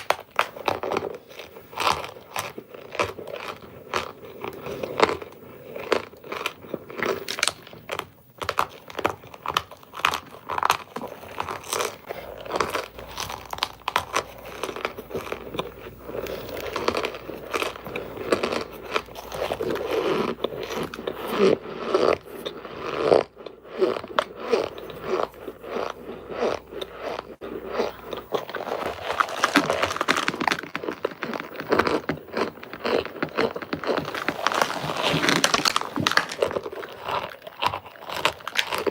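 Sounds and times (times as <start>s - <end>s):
powdery crunching of chewing: 0.0s - 38.9s.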